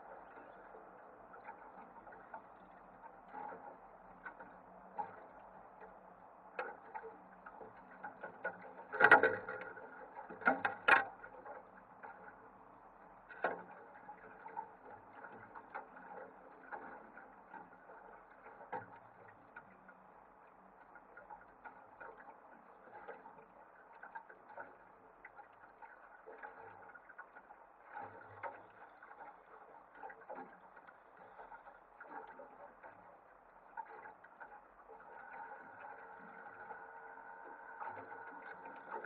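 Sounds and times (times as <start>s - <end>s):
low steady background: 0.0s - 39.0s.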